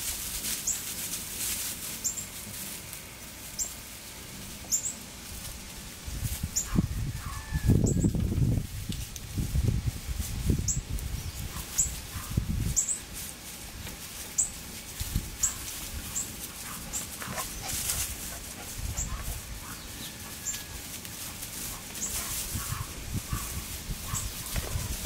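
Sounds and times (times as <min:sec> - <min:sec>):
rustling on straw: 0:00.0 - 0:25.0.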